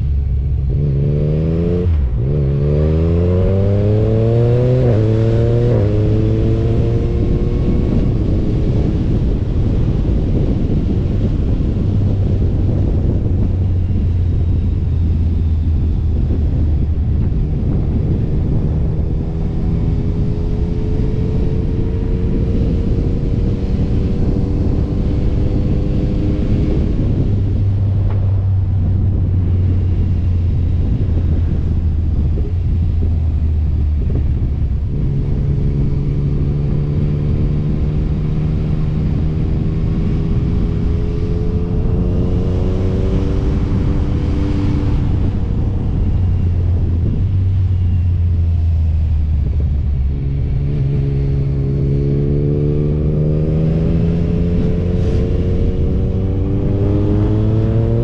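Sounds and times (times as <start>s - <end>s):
motorcycle engine revving: 0.0s - 33.1s, 33.7s - 58.0s
steady low rumble: 0.0s - 58.0s.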